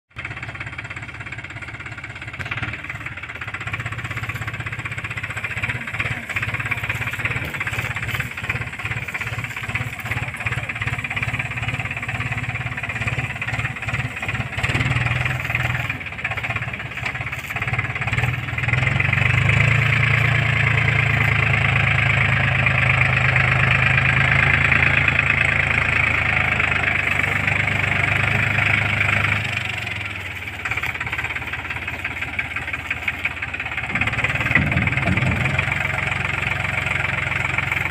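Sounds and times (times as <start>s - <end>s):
tractor diesel engine under load: 0.1s - 37.9s.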